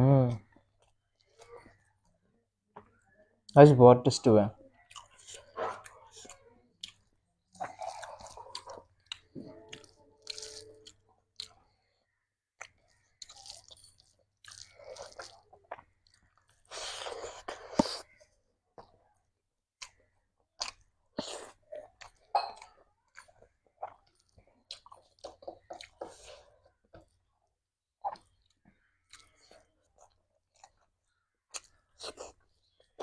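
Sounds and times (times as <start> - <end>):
person chewing and smacking: 4.7 - 11.9, 12.5 - 27.4, 28.0 - 33.0.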